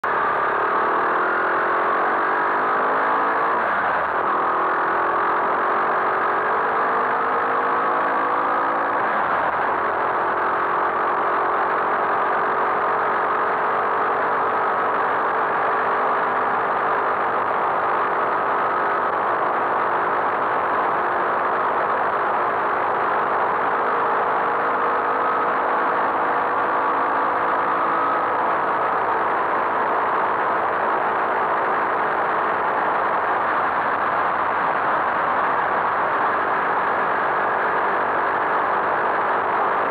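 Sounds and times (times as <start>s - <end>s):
motorcycle engine shifting gears: 0.1s - 39.9s.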